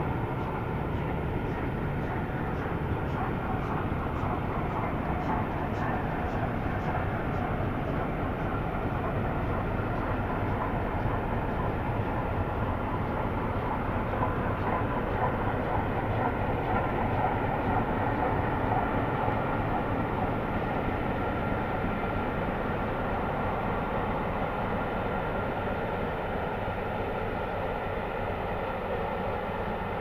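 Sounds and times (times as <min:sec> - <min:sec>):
train rumbling on rails: 0:00.0 - 0:30.0.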